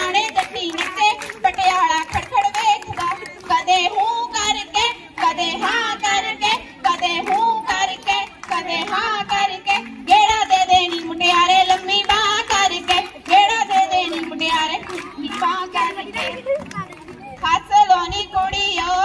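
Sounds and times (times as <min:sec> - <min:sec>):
girls singing in high voices: 0:00.0 - 0:16.8, 0:17.4 - 0:19.0
rhythmic hand clapping: 0:00.0 - 0:19.0.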